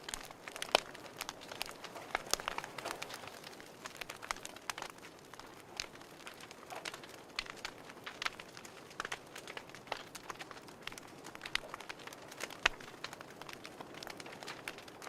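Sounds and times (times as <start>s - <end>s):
soft steady hiss: 0.0s - 15.0s
wood fire crackling: 0.0s - 15.0s.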